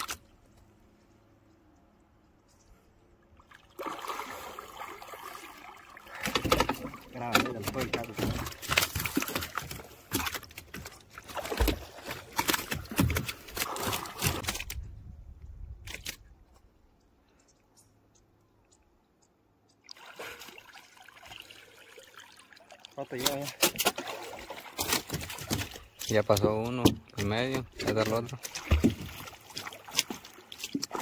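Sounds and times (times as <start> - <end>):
water splashing and sloshing: 0.0 - 15.0, 19.7 - 31.0.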